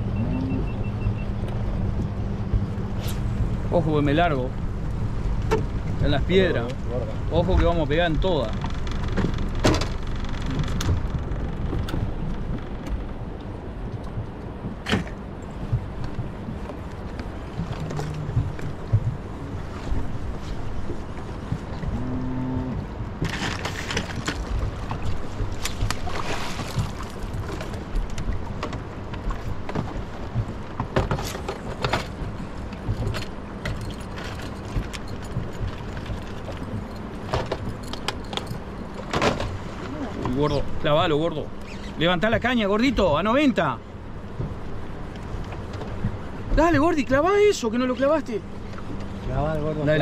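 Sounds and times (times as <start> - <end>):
wind rumbling on microphone: 0.0 - 41.0
water slapping against hull: 1.5 - 49.6.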